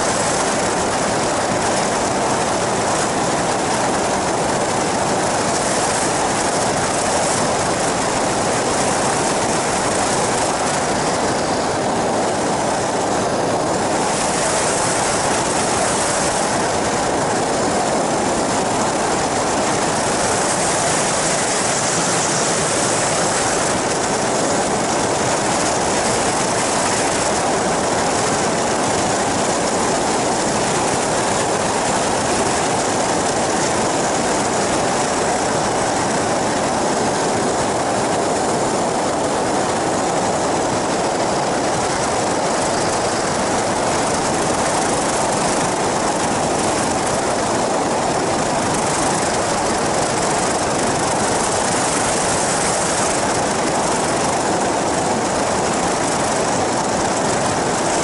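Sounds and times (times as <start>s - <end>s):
propeller engine running: 0.0s - 58.0s
rushing wind: 0.0s - 58.0s.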